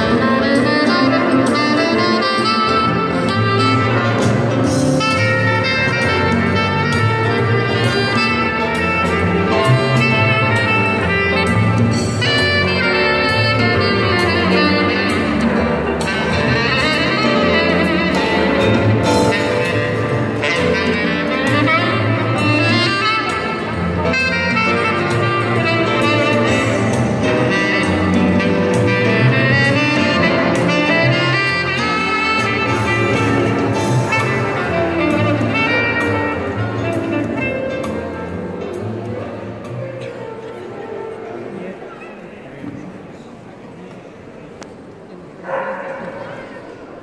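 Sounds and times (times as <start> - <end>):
instrumental music: 0.0 - 41.9.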